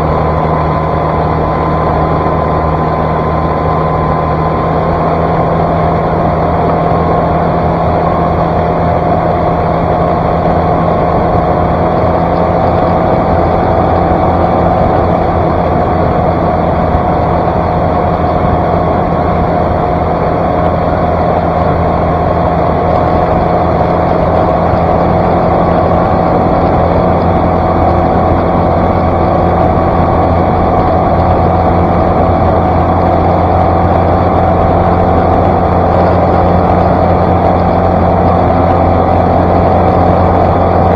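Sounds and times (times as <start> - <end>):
outboard motor running hard: 0.0 - 40.9.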